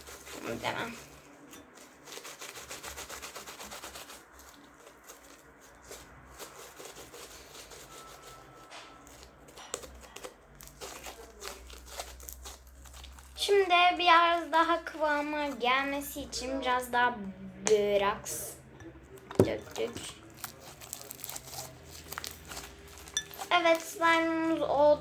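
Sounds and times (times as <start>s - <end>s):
slime crackling and rubbing: 0.0s - 17.1s, 19.4s - 25.0s.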